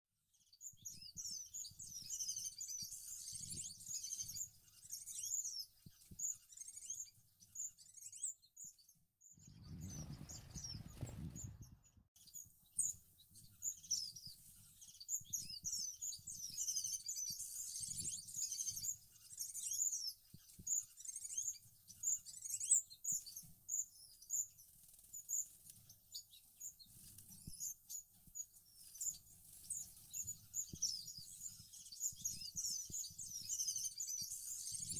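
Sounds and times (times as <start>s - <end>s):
finches chirping: 0.4s - 34.9s.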